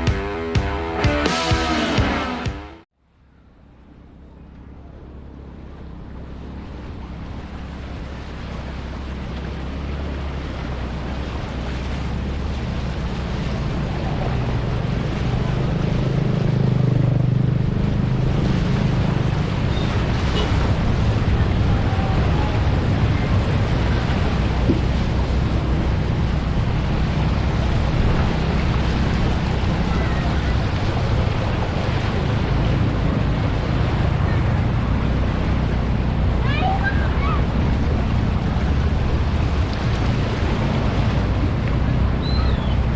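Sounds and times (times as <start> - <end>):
vehicles rumbling: 0.0 - 42.9
water on flooded road: 3.0 - 42.9.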